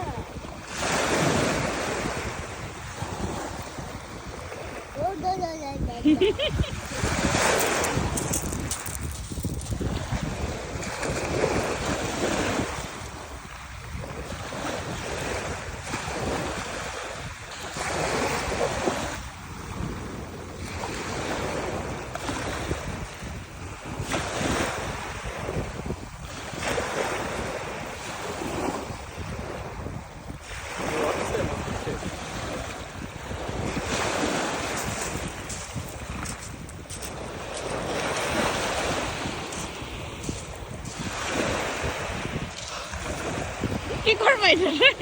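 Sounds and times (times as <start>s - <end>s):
sea waves washing: 0.0s - 45.0s
wind buffeting microphone: 0.0s - 45.0s.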